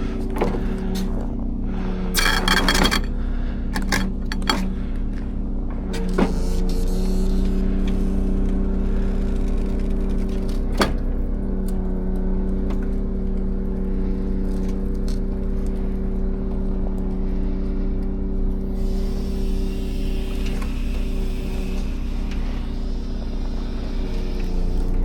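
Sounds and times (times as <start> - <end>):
diesel truck engine droning: 0.0 - 25.0.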